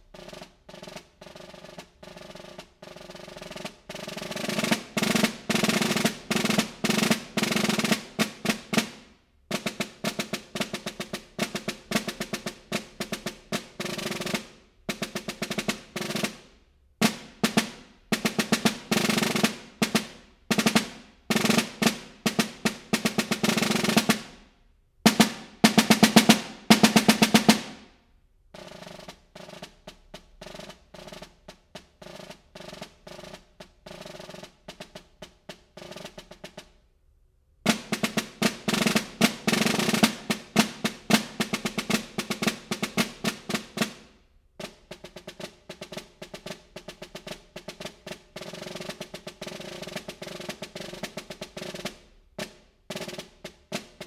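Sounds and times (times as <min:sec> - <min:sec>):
snare drum strokes and rolls: 0:00.0 - 0:28.0, 0:28.6 - 0:36.8, 0:37.7 - 0:54.0.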